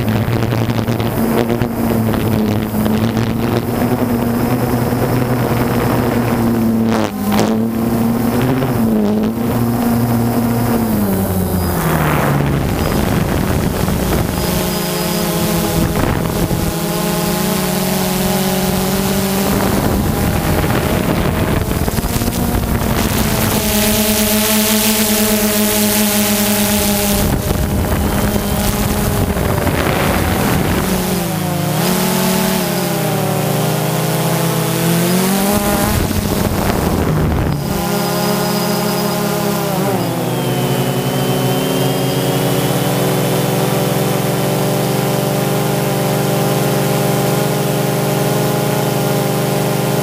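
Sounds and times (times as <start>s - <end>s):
drone propellers humming: 0.0s - 50.0s.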